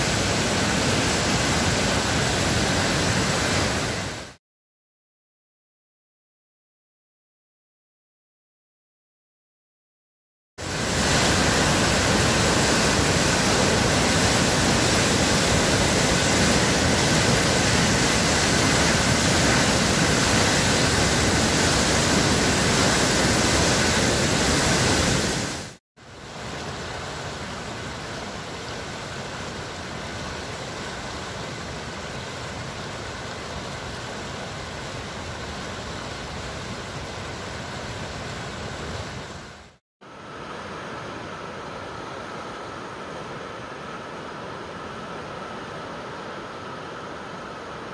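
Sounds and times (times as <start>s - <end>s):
floodwater roaring in a river: 0.0s - 4.4s, 10.6s - 47.9s.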